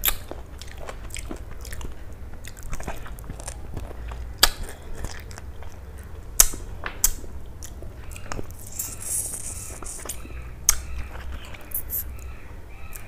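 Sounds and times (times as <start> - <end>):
biting and chewing food: 0.0 - 13.0.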